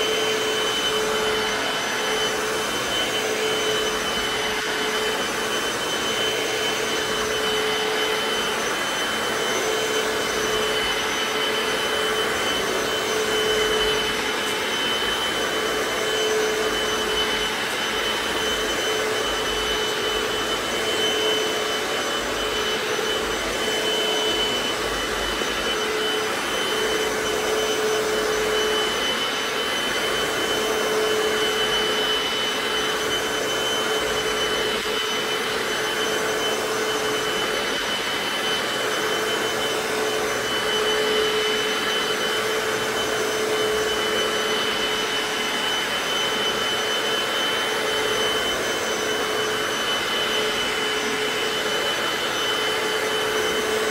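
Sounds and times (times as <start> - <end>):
floor cleaner motor with whine: 0.0 - 53.9.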